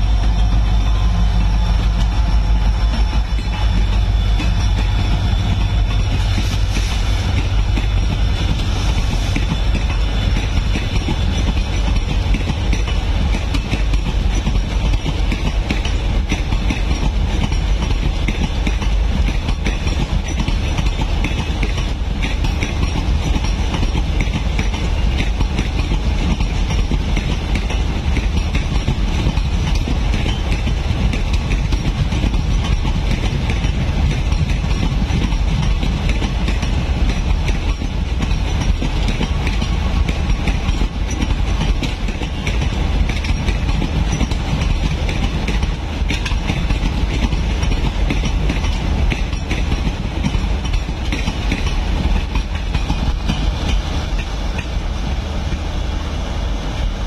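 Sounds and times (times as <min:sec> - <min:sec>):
train coaches rumbling past: 0:00.0 - 0:57.0.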